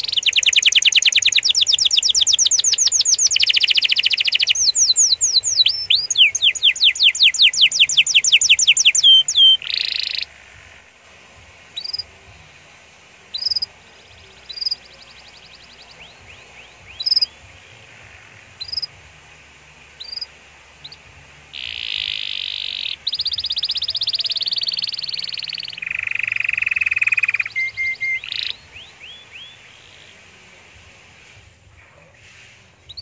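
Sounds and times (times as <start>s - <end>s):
canary singing: 0.0s - 10.9s, 11.6s - 12.4s, 13.0s - 30.4s.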